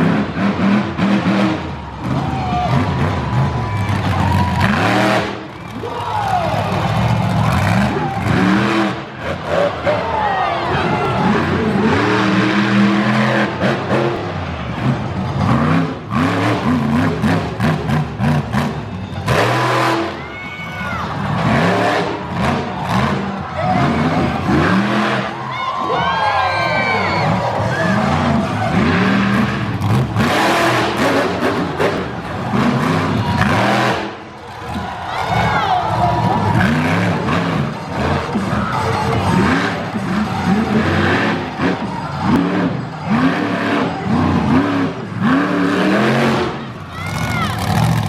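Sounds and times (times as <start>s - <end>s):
monster truck engine revving: 0.0s - 48.0s.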